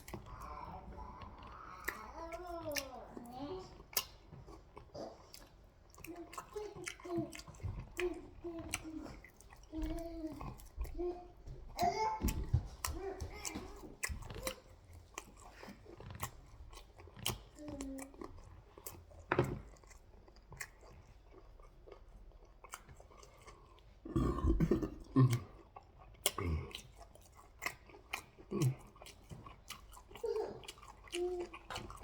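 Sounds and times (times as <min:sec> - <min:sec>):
chewing and mouth sounds: 0:00.0 - 0:32.0.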